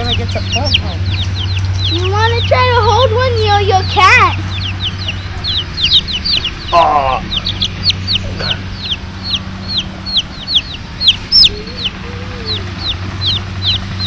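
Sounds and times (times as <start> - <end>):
baby chicks peeping: 0.0 - 14.0
steady low hum: 0.0 - 14.0.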